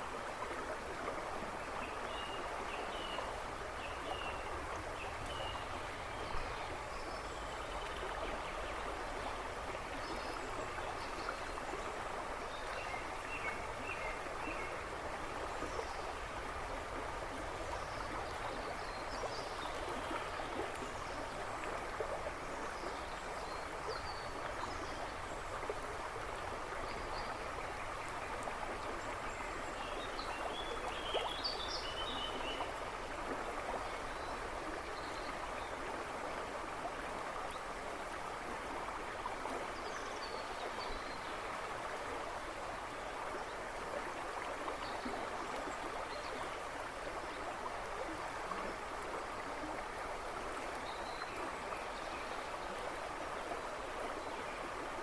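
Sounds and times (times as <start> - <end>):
river rushing and babbling: 0.0 - 55.0.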